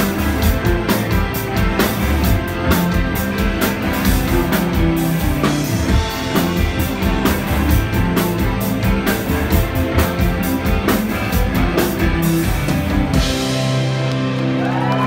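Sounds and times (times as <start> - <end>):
steady drum beat: 0.0 - 14.0
live rock band playing: 0.0 - 15.0.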